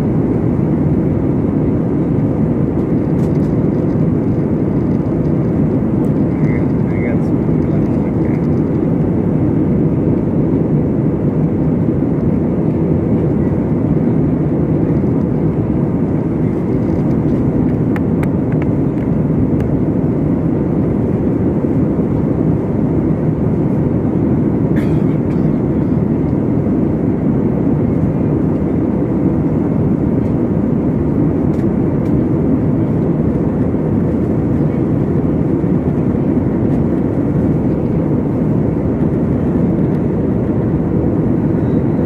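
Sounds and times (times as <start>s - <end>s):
airliner cabin engine rumble: 0.0s - 42.0s.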